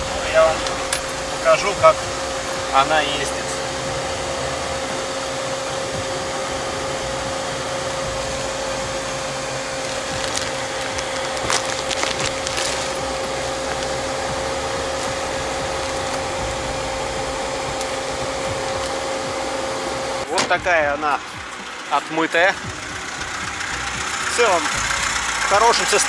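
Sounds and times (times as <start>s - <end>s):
car engine and road noise: 0.0s - 26.0s
constant tone: 0.0s - 26.0s.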